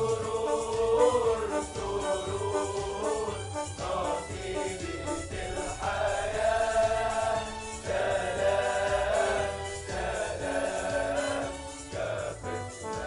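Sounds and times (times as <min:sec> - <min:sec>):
choir singing sustained chords: 0:00.0 - 0:13.0
low musical accompaniment: 0:00.0 - 0:13.0.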